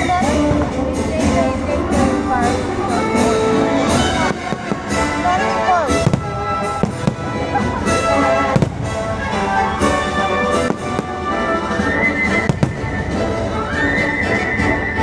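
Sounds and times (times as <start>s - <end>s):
firework bursts banging: 0.0s - 13.5s
loud orchestral music: 0.0s - 15.0s.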